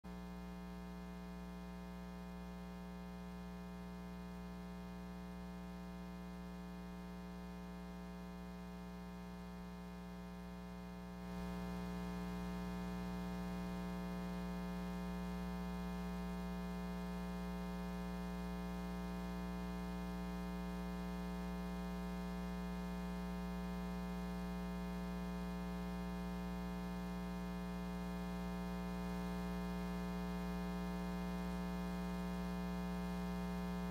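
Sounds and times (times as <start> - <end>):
electrical mains hum: 0.1 - 33.9.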